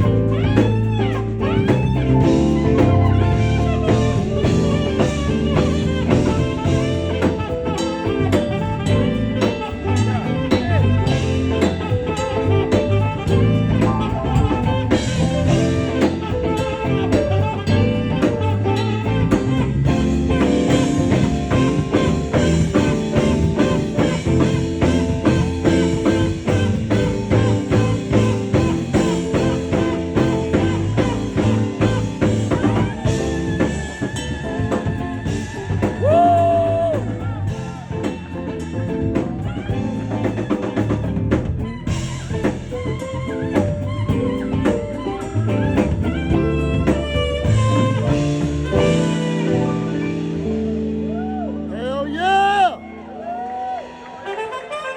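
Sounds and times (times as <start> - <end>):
saxophone long held note: 0.0 - 38.0, 42.8 - 50.5, 54.0 - 54.9
live jazz band: 0.0 - 54.9.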